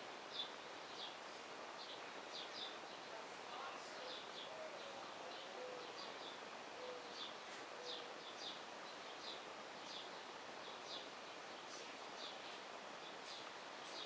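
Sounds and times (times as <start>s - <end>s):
steady background hiss: 0.0s - 14.0s
small birds chirping: 0.2s - 14.0s.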